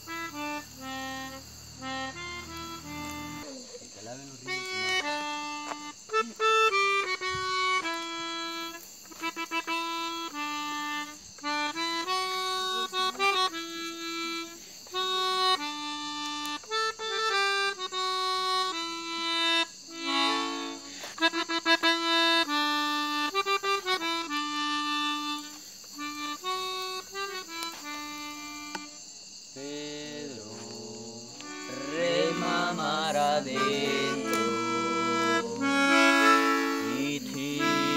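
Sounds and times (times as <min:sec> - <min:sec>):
melodica melody: 0:00.0 - 0:03.5, 0:04.5 - 0:29.0, 0:30.7 - 0:37.9.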